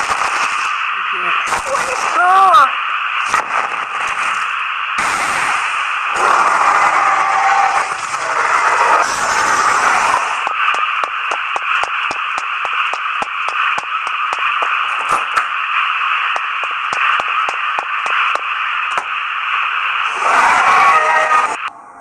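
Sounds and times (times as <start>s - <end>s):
radio static hiss: 0.0s - 21.8s.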